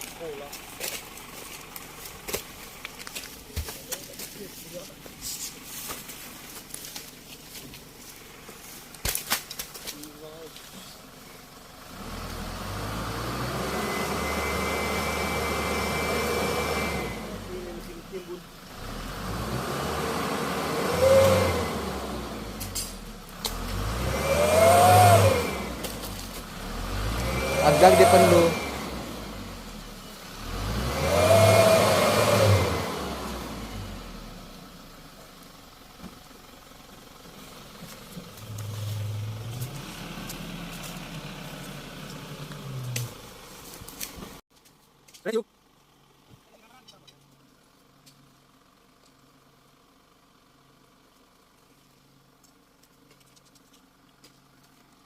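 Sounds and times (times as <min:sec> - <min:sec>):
dump truck engine: 0:00.0 - 0:44.4.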